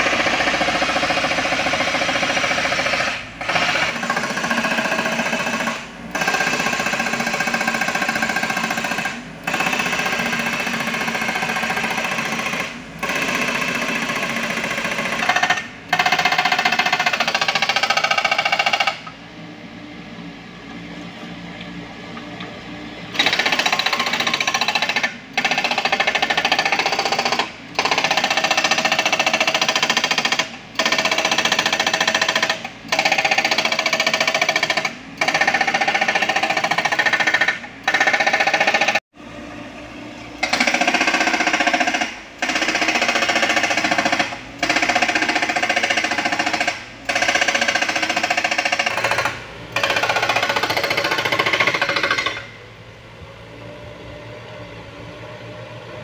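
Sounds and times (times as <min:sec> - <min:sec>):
hydraulic breaker hammering rock: 0:00.0 - 0:19.1, 0:23.1 - 0:39.0, 0:40.4 - 0:52.5.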